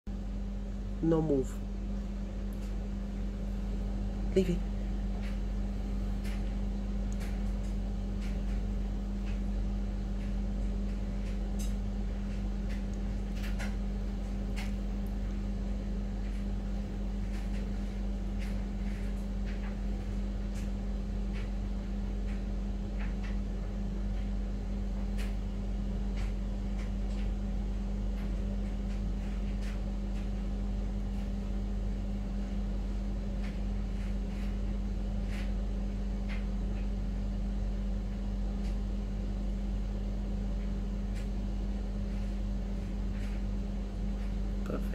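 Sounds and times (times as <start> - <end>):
aquarium equipment hum: 0.1 - 44.9.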